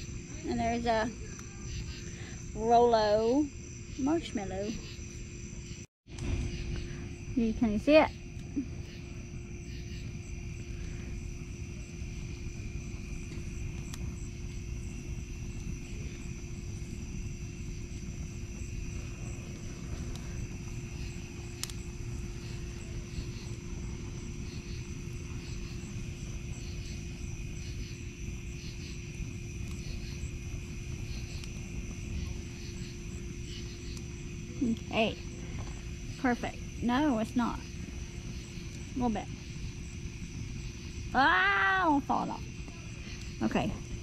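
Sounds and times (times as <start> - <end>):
campfire burning: 0.0 - 44.0
crickets and insects chirping: 0.0 - 44.0
fire crackle: 0.0 - 44.0.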